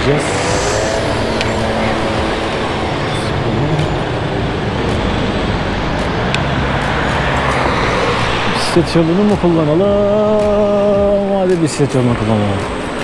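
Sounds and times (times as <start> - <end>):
busy road traffic: 0.0 - 13.0.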